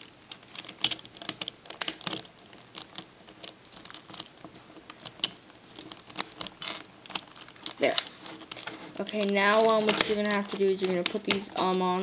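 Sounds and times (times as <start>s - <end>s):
plastic puzzle pieces clicking: 0.3s - 4.3s, 4.9s - 12.0s.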